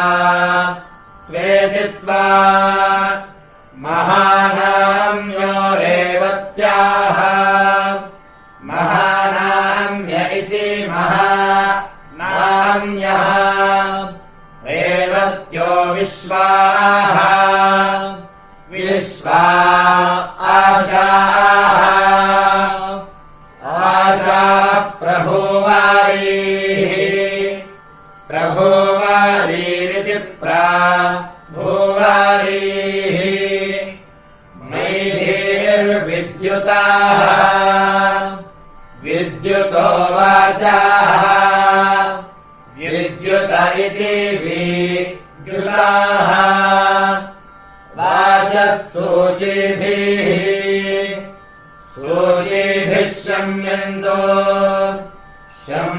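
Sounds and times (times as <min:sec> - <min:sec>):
chanting on a steady pitch: 0:00.0 - 0:55.9.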